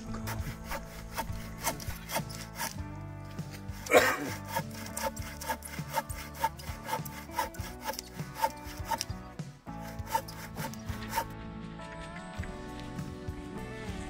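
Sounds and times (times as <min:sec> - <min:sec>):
hand saw cutting wood: 0:00.0 - 0:11.3.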